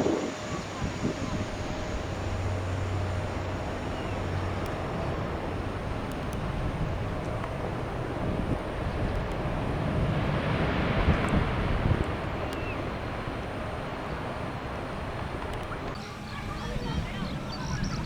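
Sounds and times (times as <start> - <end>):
jet airliner engine rush: 0.0 - 18.0.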